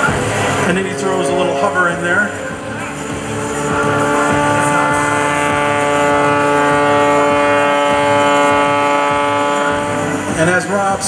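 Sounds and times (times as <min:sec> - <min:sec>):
plane engine and propeller drone: 0:00.0 - 0:11.0.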